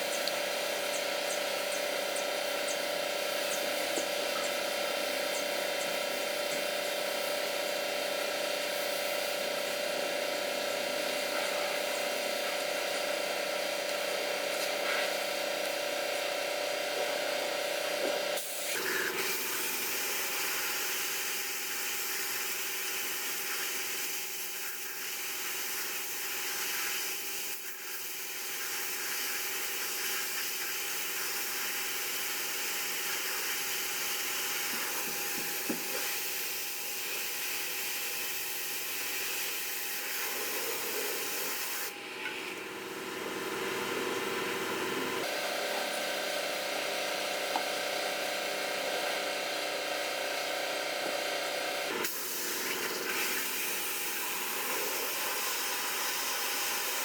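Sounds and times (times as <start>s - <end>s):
cleaning tool motor hissing: 0.0s - 57.0s.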